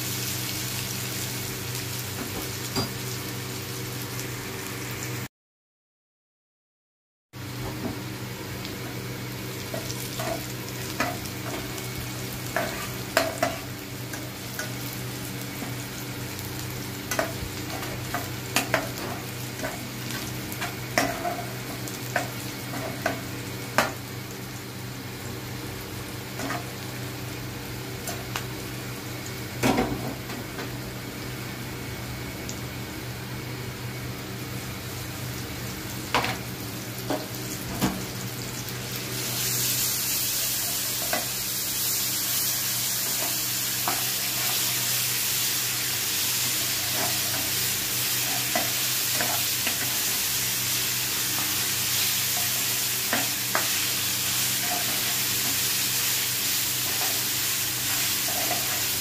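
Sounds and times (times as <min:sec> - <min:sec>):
onions sizzling in hot oil: 0:00.0 - 0:05.2, 0:07.4 - 0:32.8, 0:33.8 - 0:59.0.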